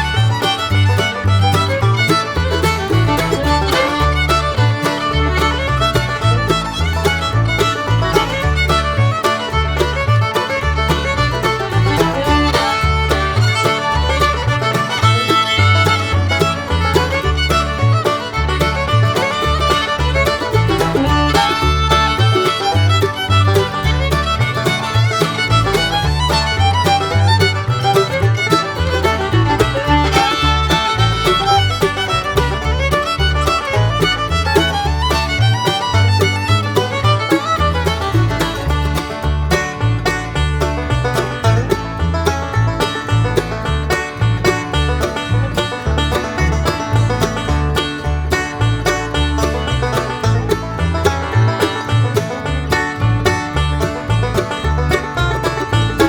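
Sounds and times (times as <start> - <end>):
bass line: 0.0 - 56.0
upbeat fiddle tune: 0.0 - 56.0.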